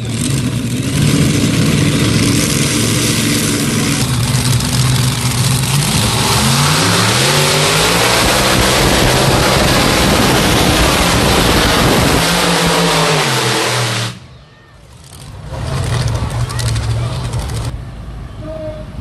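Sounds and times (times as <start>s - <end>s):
tractor engine revving: 0.0s - 14.3s, 14.9s - 17.8s.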